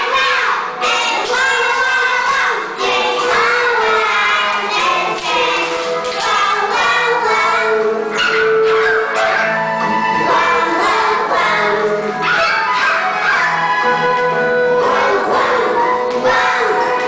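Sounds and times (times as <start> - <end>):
backing track music: 0.0 - 17.0
children singing together: 0.0 - 17.0.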